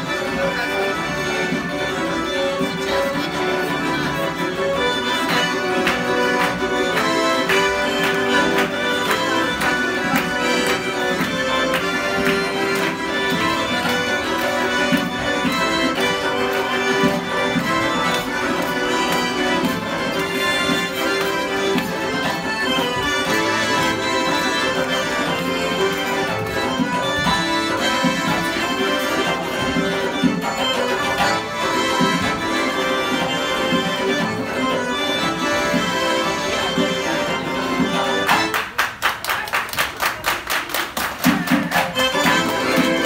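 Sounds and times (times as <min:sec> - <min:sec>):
folk dance music on electronic keyboard: 0:00.0 - 0:39.6, 0:40.2 - 0:43.0
fast sharp percussive beats: 0:05.2 - 0:43.0.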